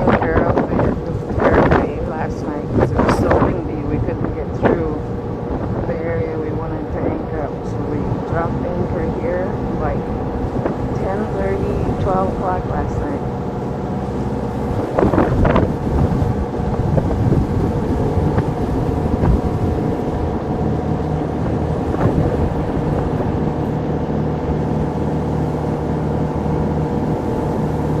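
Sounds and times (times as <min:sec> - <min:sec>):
boat engine running: 0:00.0 - 0:28.0
wind gusts on microphone: 0:00.0 - 0:28.0.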